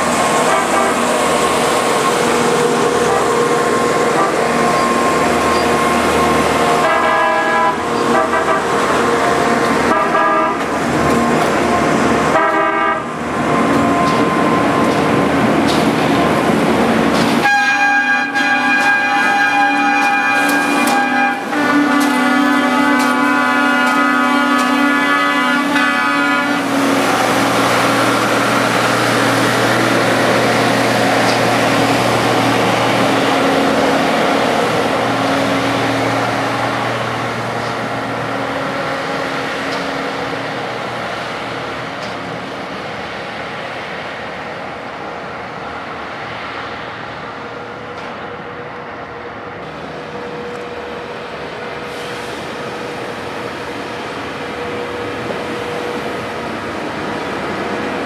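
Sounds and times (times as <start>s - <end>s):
diesel engines of machines passing: 0.0s - 58.0s.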